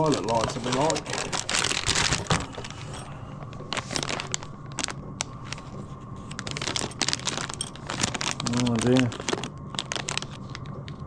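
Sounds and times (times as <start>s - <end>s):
low steady hum: 0.0s - 11.0s
plastic packaging crinkling: 0.0s - 11.0s.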